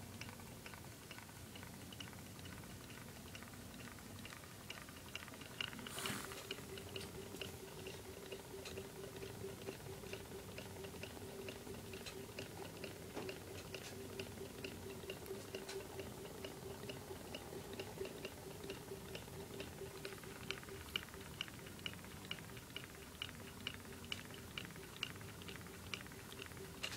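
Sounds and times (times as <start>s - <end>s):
steady hum: 0.0s - 26.9s.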